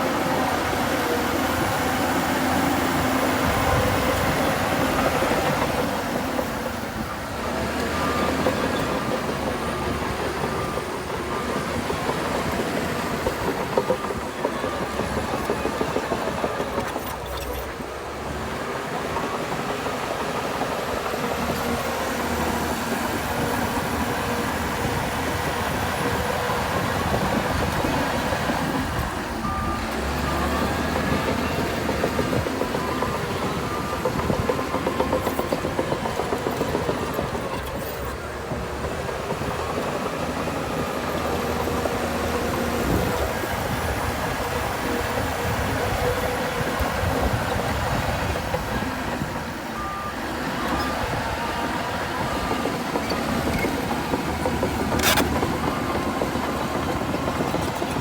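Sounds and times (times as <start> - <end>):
reversing alarm beeping: 0.0 - 17.8, 21.1 - 58.0
bulldozer diesel engine under load: 0.0 - 58.0.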